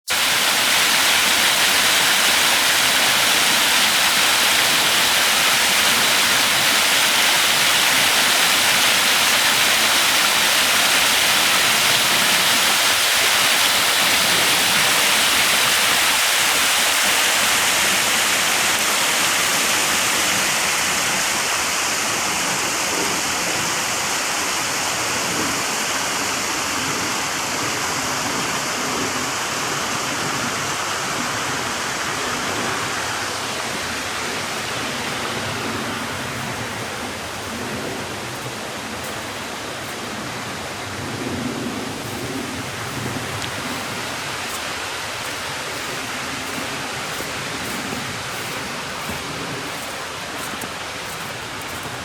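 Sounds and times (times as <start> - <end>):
waterfall rushing: 0.1 - 52.0.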